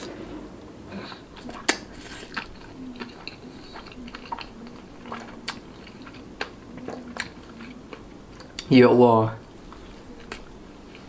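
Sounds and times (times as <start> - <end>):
close-miked chewing: 1.0 - 8.8, 9.4 - 11.0.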